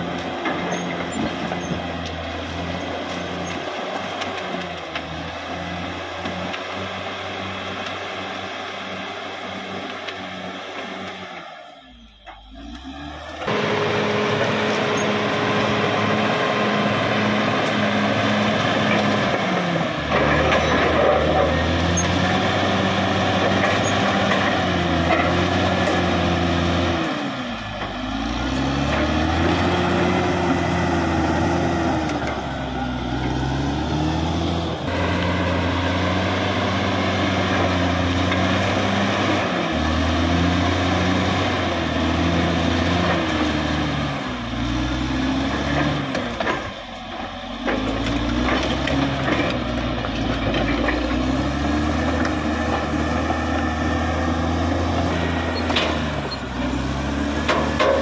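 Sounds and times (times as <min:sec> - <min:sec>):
bulldozer diesel engine running hard: 0:00.0 - 0:58.0.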